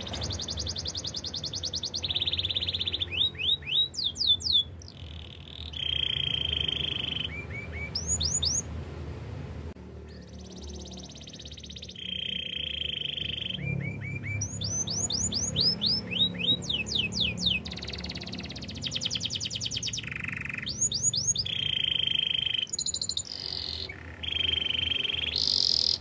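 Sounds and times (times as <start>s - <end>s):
canary singing trills: 0.0s - 8.7s, 10.0s - 26.0s.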